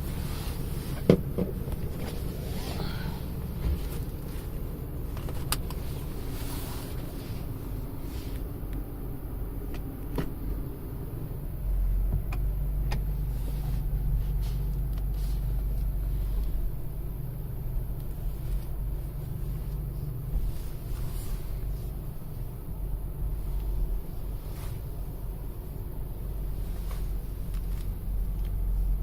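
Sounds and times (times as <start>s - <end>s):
engine and road rumble in cab: 0.0s - 29.0s.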